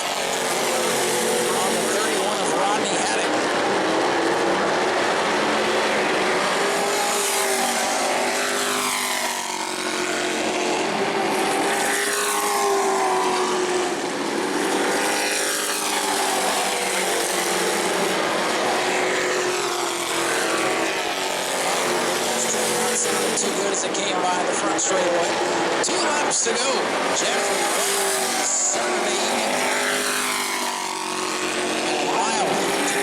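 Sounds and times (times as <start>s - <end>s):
loud drone of engines: 0.0s - 33.0s
racing trucks passing by: 0.0s - 33.0s.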